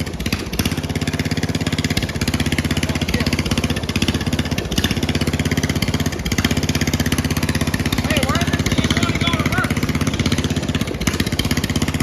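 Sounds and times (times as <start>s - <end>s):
mower engine popping: 0.0s - 12.0s.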